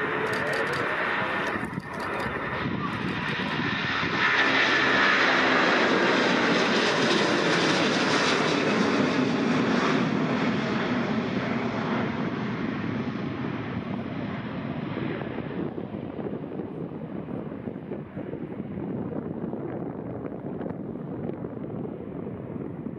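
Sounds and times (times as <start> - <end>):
jet airliner engines rumbling: 0.0 - 22.9.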